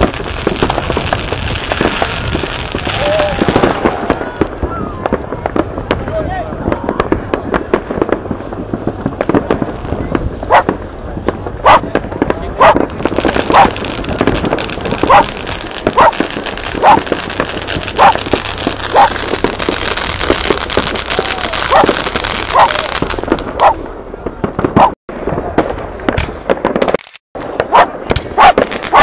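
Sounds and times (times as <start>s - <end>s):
fireworks cracking and popping: 0.0s - 29.0s.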